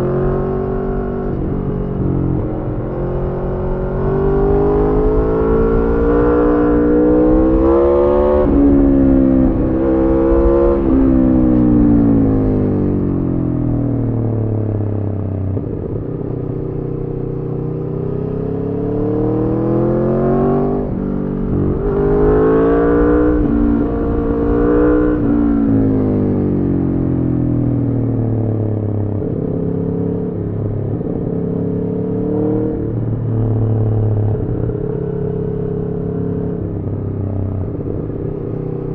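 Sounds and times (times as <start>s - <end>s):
motorcycle engine accelerating hard: 0.0s - 38.9s.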